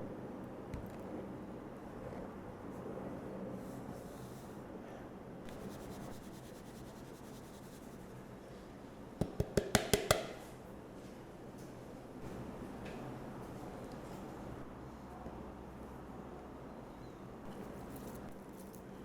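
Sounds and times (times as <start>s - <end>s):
faint room noise: 0.0s - 19.0s.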